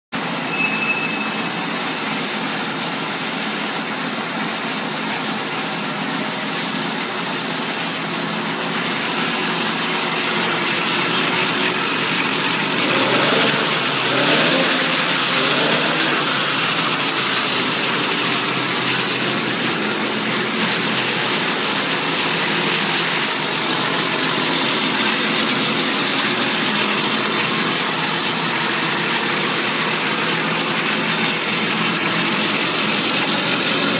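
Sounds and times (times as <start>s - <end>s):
small motorbike engine idling and revving: 0.1s - 33.9s.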